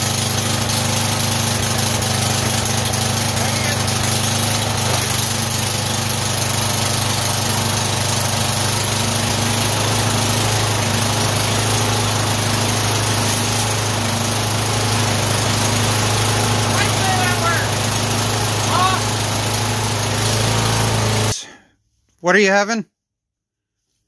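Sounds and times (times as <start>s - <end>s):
lawn tractor engine running: 0.0s - 21.4s.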